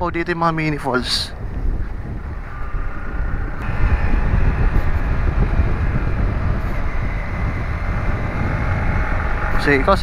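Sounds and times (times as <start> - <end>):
wind rumble on microphone: 0.0 - 10.0
motorcycle engine running: 1.2 - 10.0.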